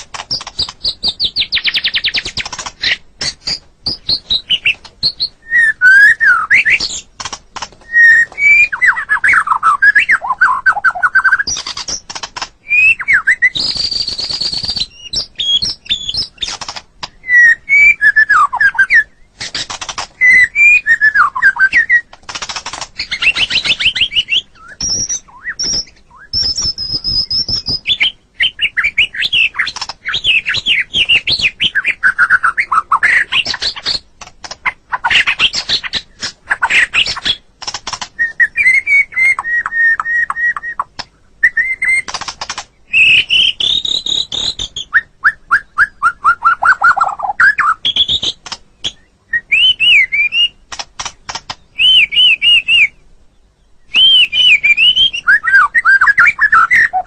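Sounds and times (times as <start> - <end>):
songbird singing whistled phrases: 0.3 - 7.1, 7.8 - 22.2, 23.0 - 34.0, 38.2 - 42.1, 42.9 - 50.6, 51.3 - 57.0.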